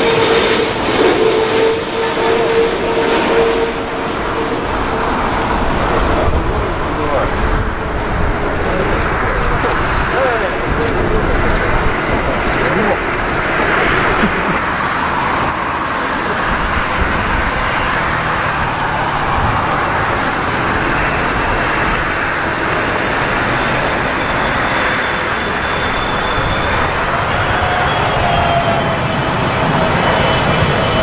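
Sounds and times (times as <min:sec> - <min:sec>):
faint jet engine whine: 0:00.0 - 0:31.0
jet engines roaring: 0:00.0 - 0:31.0
wind rumbling on microphone: 0:00.0 - 0:31.0.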